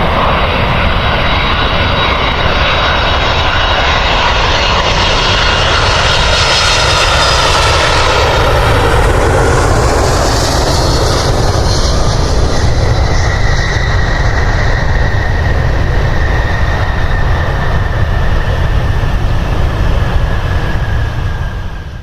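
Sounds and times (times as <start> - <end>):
jet airliner engines rumbling: 0.0 - 22.0
thin jet engine whine: 0.0 - 22.0.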